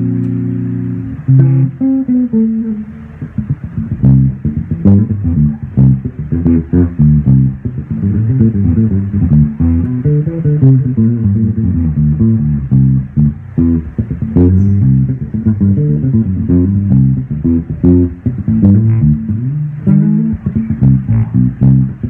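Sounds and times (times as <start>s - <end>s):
bass guitar plucked: 0.0s - 22.0s.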